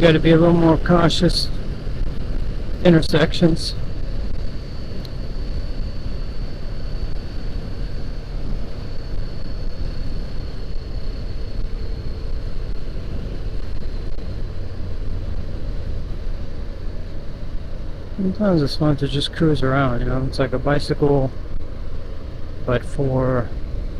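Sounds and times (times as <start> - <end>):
wind rushing over microphone: 0.0 - 22.8
motorcycle engine running: 0.0 - 23.9
thin high whine: 0.0 - 23.9.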